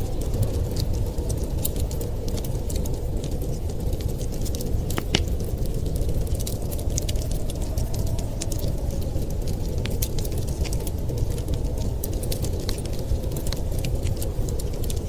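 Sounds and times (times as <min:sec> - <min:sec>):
low wind rumble: 0:00.0 - 0:15.0
wood fire crackling and popping: 0:00.0 - 0:15.0.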